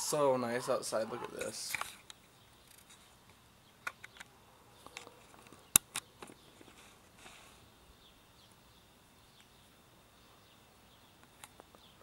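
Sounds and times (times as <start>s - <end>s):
faint steady high hiss: 0.0s - 12.0s.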